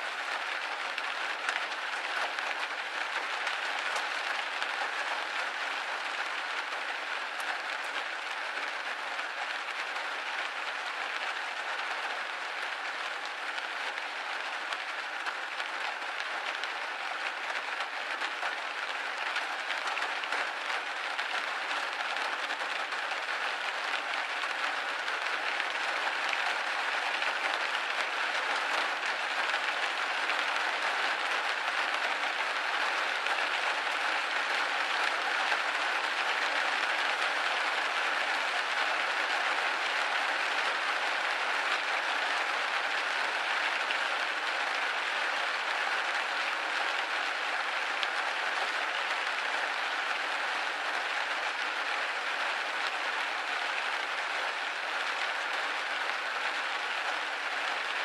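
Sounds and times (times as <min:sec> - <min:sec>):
rain on a window pane: 0:00.0 - 0:58.0.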